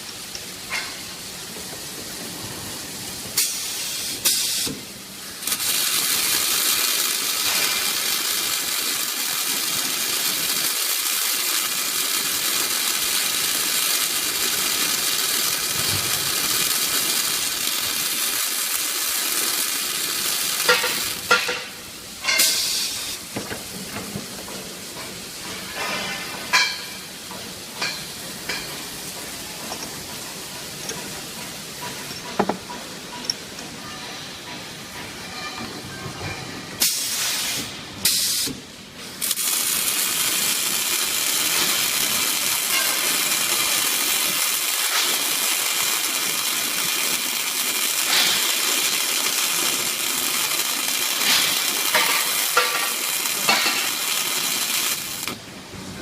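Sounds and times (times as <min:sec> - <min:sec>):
welding arcs crackling: 0:00.0 - 0:33.8, 0:36.8 - 0:55.7.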